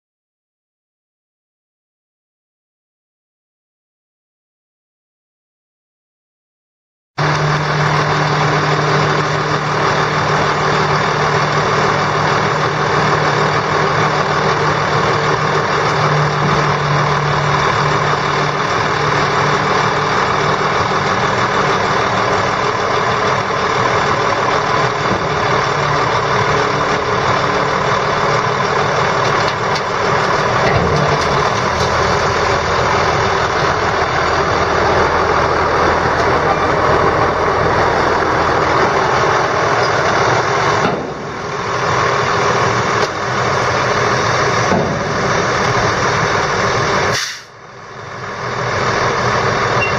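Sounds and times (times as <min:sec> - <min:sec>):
diesel truck engine running: 0:07.2 - 0:49.9.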